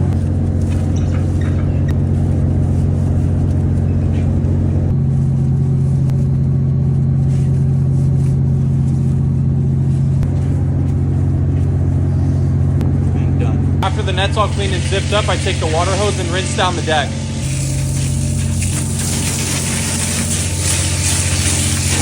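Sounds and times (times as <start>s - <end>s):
boat engine and hydraulics drone: 0.0s - 22.0s.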